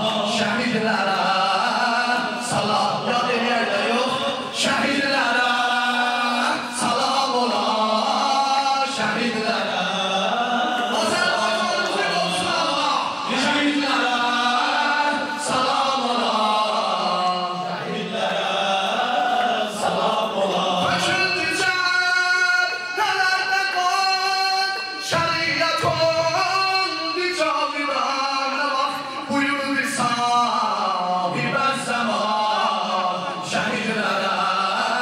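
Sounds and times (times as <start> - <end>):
men chanting through microphones: 0.0 - 35.0.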